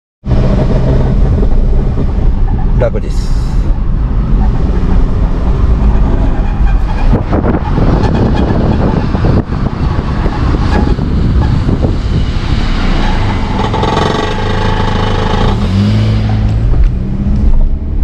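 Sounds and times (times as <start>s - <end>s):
car running noise: 0.2s - 18.0s.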